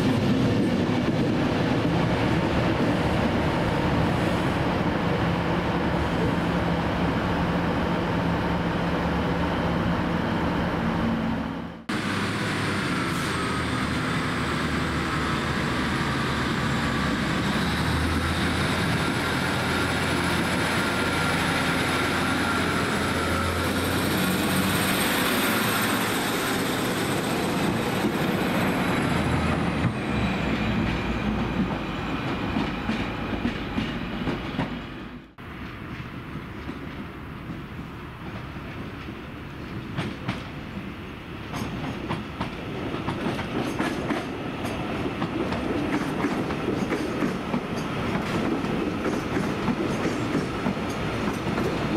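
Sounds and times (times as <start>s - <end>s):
diesel train engines running: 3.4s - 51.9s.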